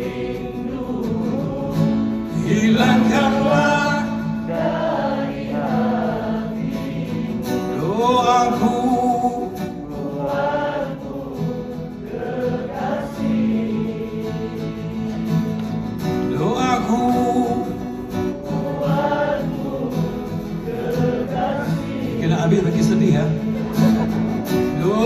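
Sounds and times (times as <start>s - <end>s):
group singing a slow ballad: 0.0s - 25.0s
strummed acoustic guitar: 0.0s - 25.0s.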